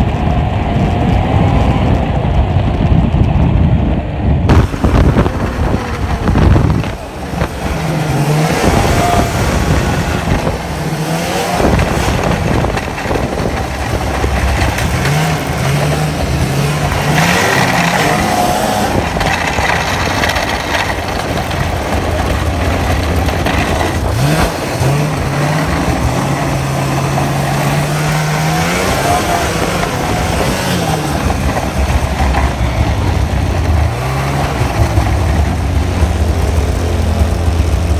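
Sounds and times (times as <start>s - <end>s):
steady rushing noise: 0.0s - 37.9s
snowmobile engine revving: 4.5s - 37.9s.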